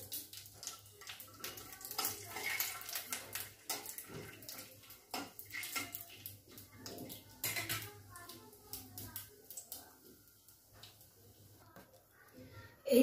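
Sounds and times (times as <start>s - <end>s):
nuts sizzling in oil: 0.0s - 11.6s.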